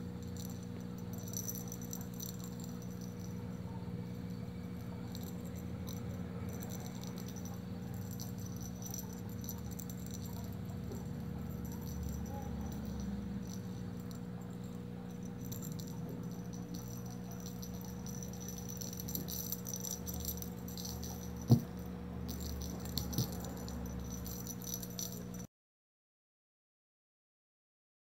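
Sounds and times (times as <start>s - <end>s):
small rattle shaken: 0.0s - 25.5s
steady low hum: 0.0s - 25.5s.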